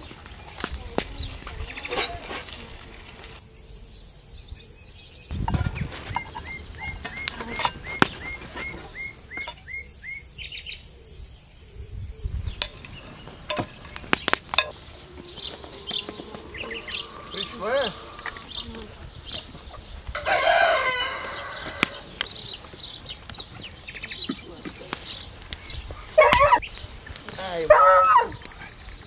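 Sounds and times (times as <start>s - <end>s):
bird chirping: 0.0s - 29.0s
insect buzz: 0.0s - 29.0s.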